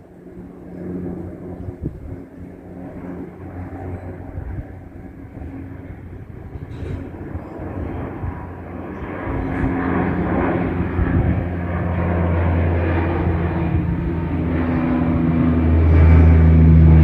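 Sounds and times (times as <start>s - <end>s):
turboprop propeller drone: 0.0s - 17.0s.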